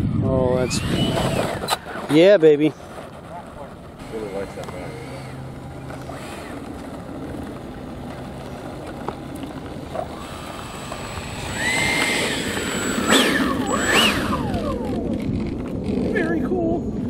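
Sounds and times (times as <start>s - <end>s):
model jet ducted fan whine: 0.0s - 17.0s.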